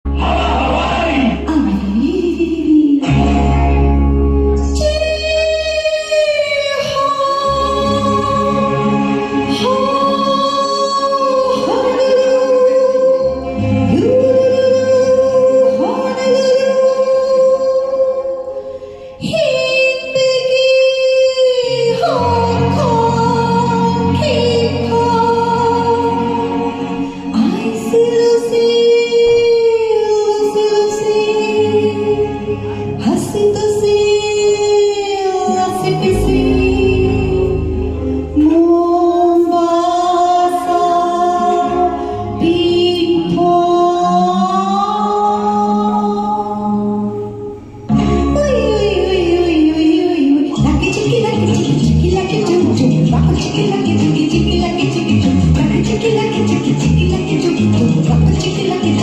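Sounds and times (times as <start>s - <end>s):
woman singing: 1.4s - 3.6s, 4.6s - 59.0s
instrumental backing with bass: 3.0s - 19.4s, 21.6s - 59.0s.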